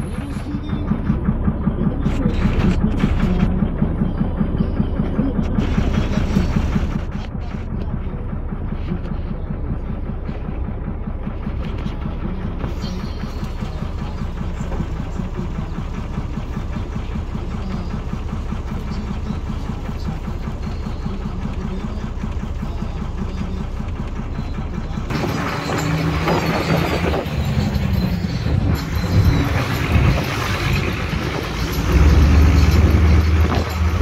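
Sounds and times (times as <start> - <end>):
vehicle engine and tyres rumbling: 0.0 - 34.0.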